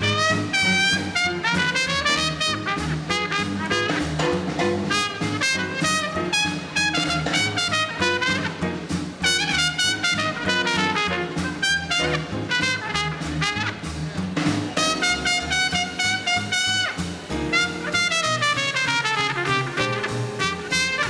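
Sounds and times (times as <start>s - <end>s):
trumpet melody: 0.0s - 14.1s, 14.7s - 21.0s
swing band playing: 0.0s - 21.0s.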